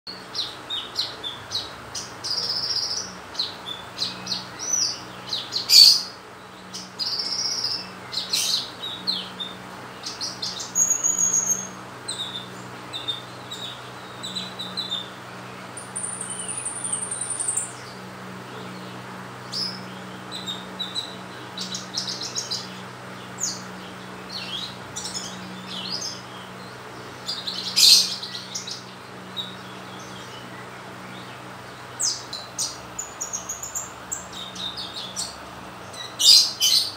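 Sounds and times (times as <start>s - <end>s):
bird chirping and trilling: 0.1s - 36.9s
steady low hum: 0.1s - 36.9s.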